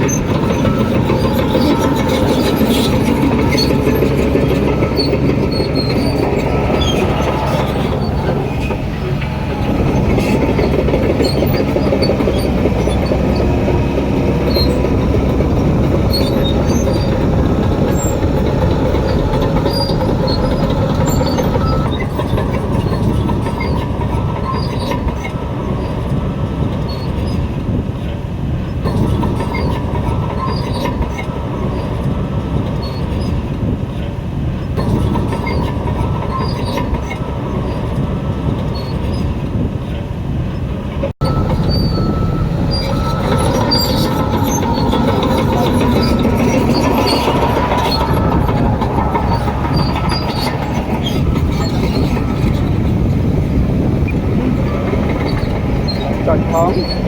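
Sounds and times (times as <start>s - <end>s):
diesel engine under load: 0.0s - 57.0s
steel tracks clanking and squealing: 0.0s - 57.0s.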